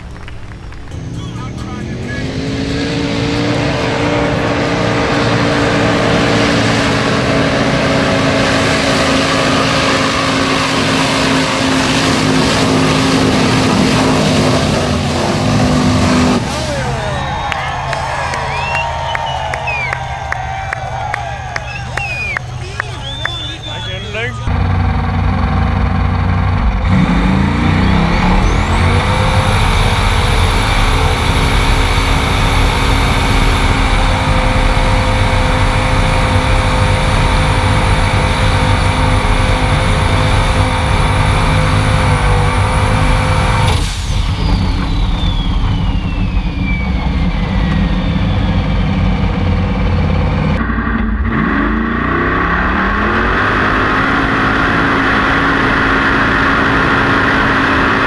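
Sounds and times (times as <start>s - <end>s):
buggy engine revving: 0.0s - 58.0s
high whine: 0.0s - 58.0s.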